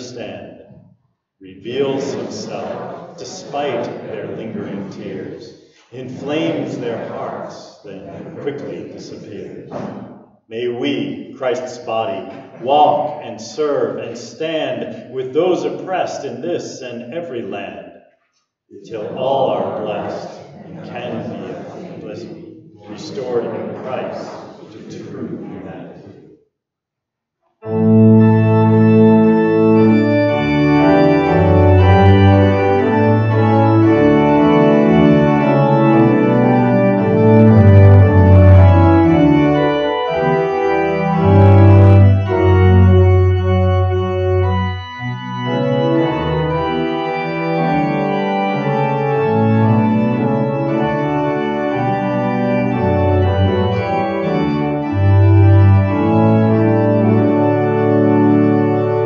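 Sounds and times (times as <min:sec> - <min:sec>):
church organ playing hymn: 0:00.0 - 0:17.9, 0:18.7 - 0:26.0, 0:27.6 - 0:59.0.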